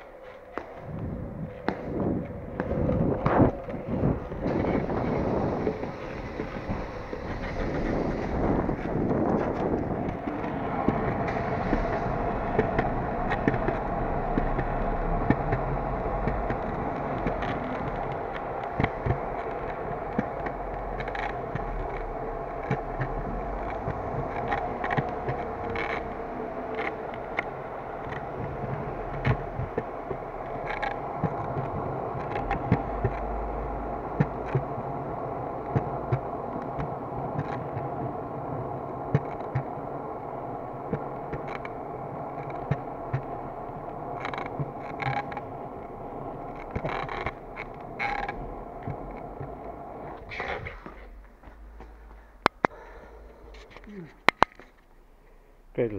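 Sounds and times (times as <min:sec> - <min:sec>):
wheels rolling on concrete: 0:00.0 - 0:55.9
sharp clicks and knocks: 0:01.6 - 0:38.2, 0:39.0 - 0:39.8, 0:40.8 - 0:52.8, 0:53.5 - 0:54.9.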